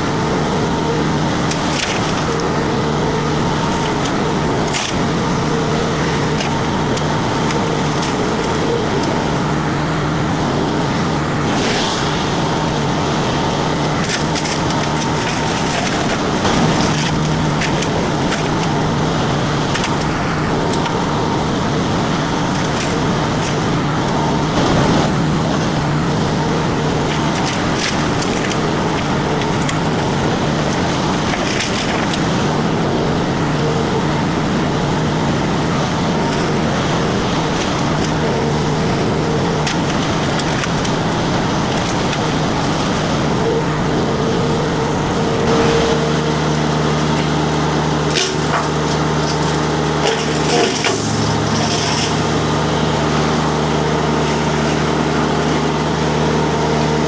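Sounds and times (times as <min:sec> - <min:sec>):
engine running under load: 0:00.0 - 0:57.0
wood cracking and splintering: 0:00.0 - 0:57.0.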